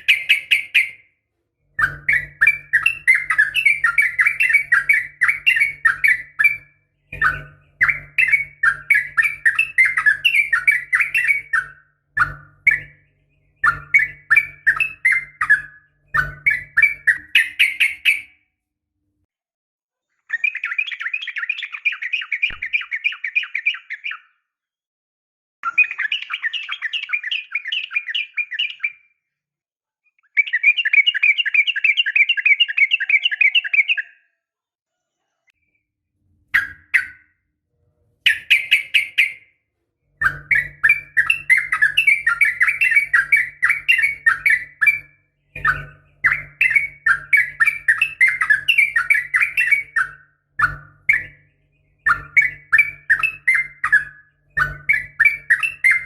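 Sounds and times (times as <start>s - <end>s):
bulbul singing chattering song: 0.0s - 1.1s, 1.7s - 18.4s, 20.3s - 24.4s, 25.6s - 29.2s, 30.1s - 34.3s, 36.5s - 37.4s, 38.2s - 56.0s.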